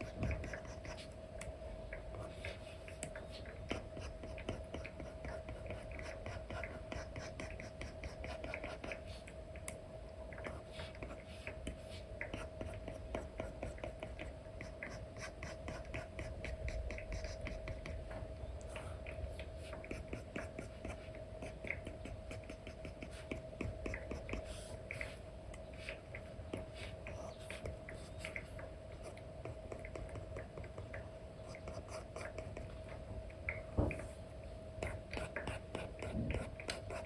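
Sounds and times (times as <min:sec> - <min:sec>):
stylus scratching on a tablet screen: 0:00.0 - 0:01.2, 0:02.1 - 0:09.3, 0:10.5 - 0:18.0, 0:18.8 - 0:30.9, 0:31.5 - 0:32.7, 0:34.8 - 0:37.0
faint steady hum: 0:00.0 - 0:37.0.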